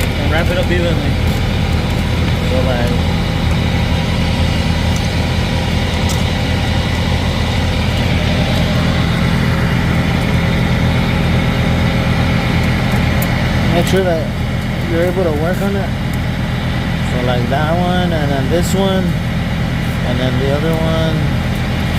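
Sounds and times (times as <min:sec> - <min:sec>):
heavy truck engine idling: 0:00.0 - 0:21.9.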